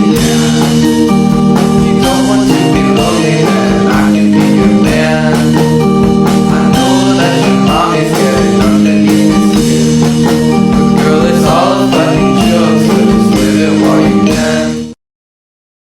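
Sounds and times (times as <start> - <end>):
sped-up pop song: 0.0 - 15.0.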